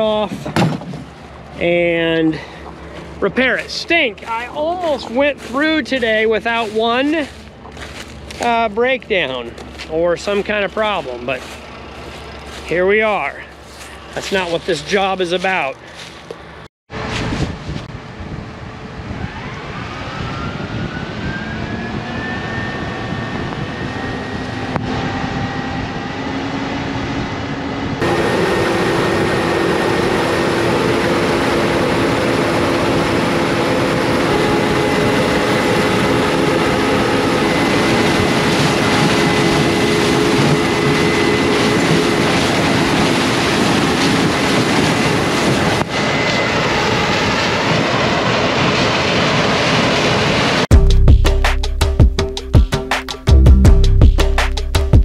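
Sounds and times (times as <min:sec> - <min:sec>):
combine harvester engine: 0:00.0 - 0:17.3, 0:22.1 - 0:50.6
high machine whine: 0:01.1 - 0:17.1, 0:18.0 - 0:48.4.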